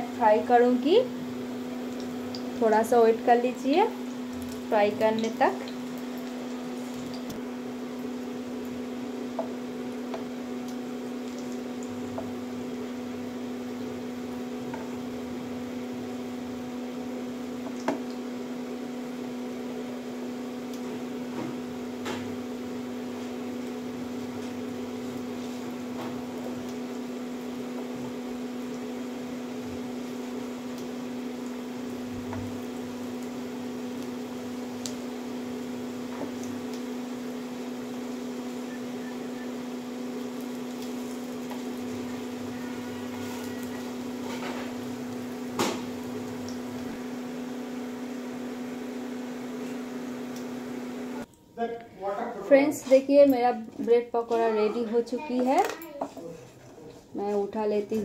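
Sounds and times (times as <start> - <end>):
food frying in oil: 0.0 - 51.3
induction cooktop humming: 0.0 - 58.0.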